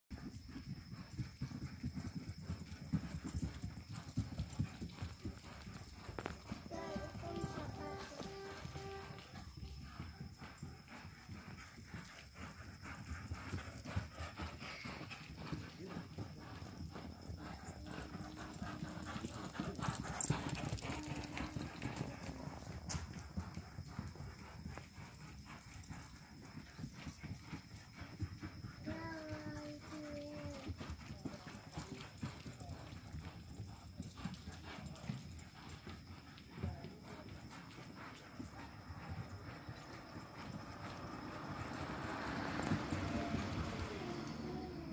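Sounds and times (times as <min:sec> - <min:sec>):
hoofbeats on soft dirt: 0:00.1 - 0:44.9.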